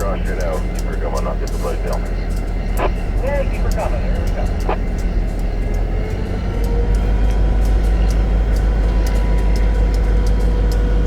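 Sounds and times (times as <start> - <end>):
diesel locomotive engine drone: 0.0 - 11.0
light ticks: 0.0 - 11.0.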